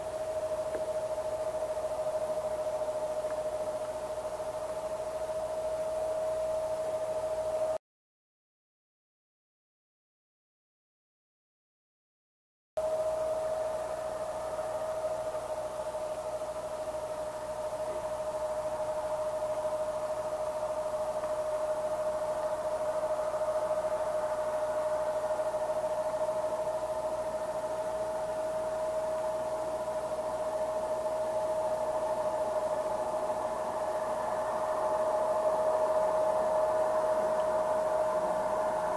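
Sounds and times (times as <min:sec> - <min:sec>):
jet engines idling: 0:00.0 - 0:07.8, 0:12.8 - 0:38.9.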